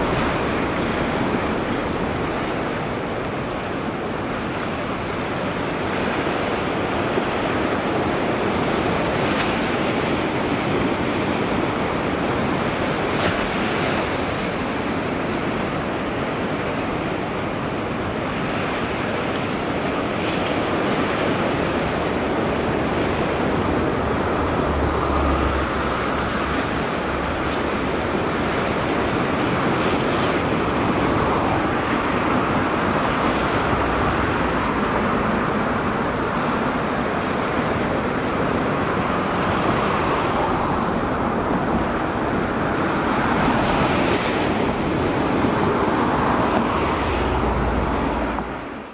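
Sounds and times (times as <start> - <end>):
small waves washing on shore: 0.0 - 48.9
wind rumble on microphone: 0.0 - 48.9.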